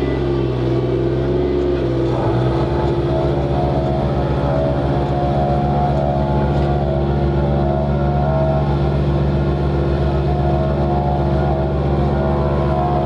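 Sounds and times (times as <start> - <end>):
diesel engine throbbing: 0.0 - 13.0.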